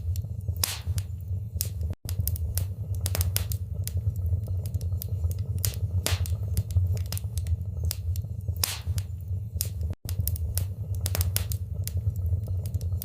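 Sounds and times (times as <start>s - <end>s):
crackles and pops from logs: 0.0s - 13.0s
low rumble of flames: 0.0s - 13.0s.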